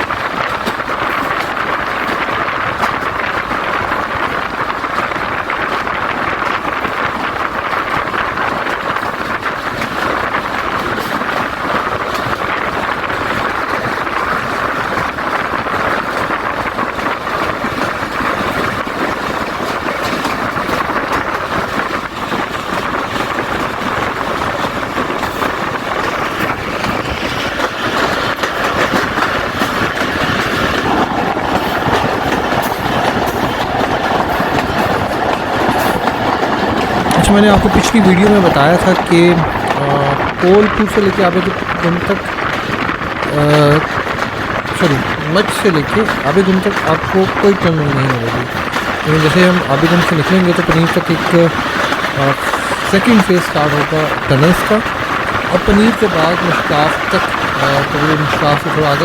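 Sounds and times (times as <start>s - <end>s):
train running on track: 0.0s - 59.0s.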